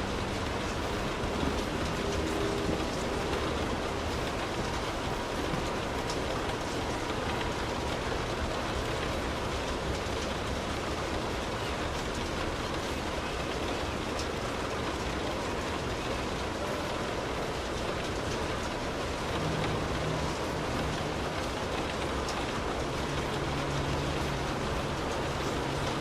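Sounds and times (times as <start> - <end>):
light rain on a car: 0.0 - 26.0
raindrop ticks: 0.0 - 26.0.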